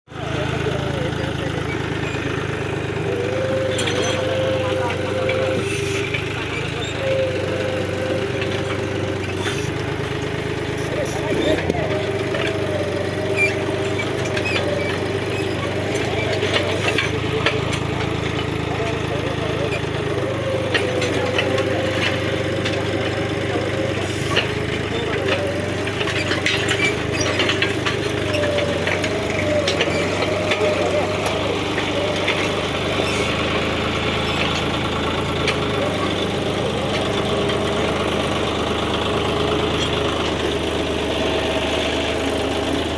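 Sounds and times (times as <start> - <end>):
tractor diesel engine running: 0.1 - 42.9.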